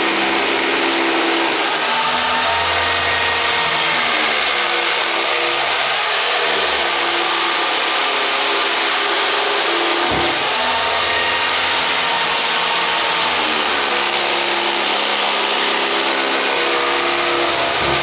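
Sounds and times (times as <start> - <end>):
power tool on concrete: 0.0 - 18.0.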